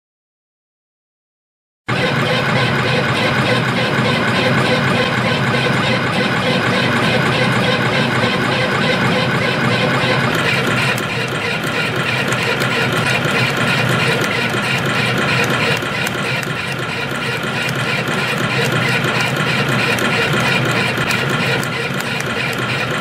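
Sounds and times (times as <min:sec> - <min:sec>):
spring coiling machine running: 0:01.9 - 0:23.0
fast regular clicking: 0:02.6 - 0:23.0.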